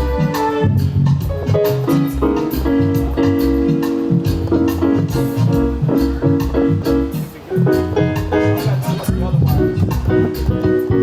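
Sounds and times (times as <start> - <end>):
bass line: 0.0 - 11.0
drum hits: 0.0 - 11.0
keyboard chords: 0.0 - 11.0.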